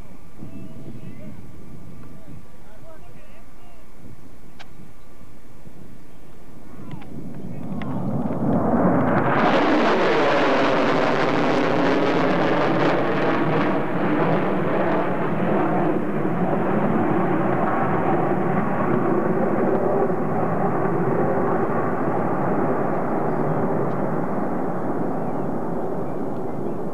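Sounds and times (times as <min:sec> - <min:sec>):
jet bomber engine roar: 0:05.3 - 0:26.9.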